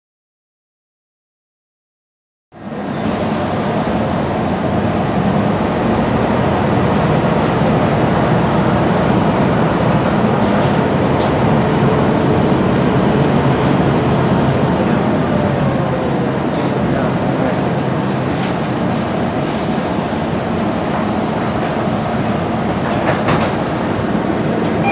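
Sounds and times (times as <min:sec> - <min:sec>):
road noise: 0:02.5 - 0:24.9
bus diesel engine drone: 0:02.6 - 0:24.9.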